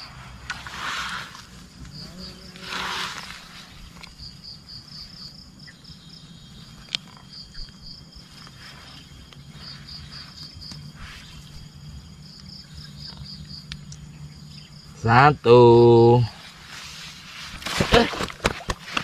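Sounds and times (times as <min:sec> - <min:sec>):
insects chirping rapidly: 0:00.0 - 0:19.0.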